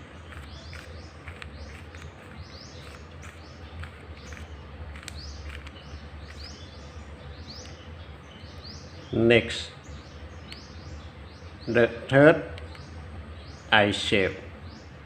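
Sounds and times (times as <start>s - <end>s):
bird chirping: 0.0s - 15.0s
low hum: 0.0s - 15.0s.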